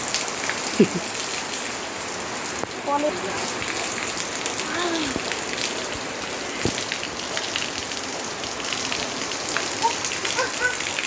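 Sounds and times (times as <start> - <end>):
steady rain splashing: 0.0 - 11.0.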